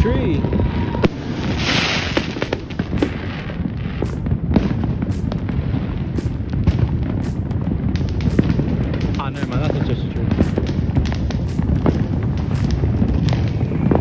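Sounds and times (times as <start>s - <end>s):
fireworks popping and cracking: 0.0s - 14.0s
low rumble: 0.0s - 14.0s.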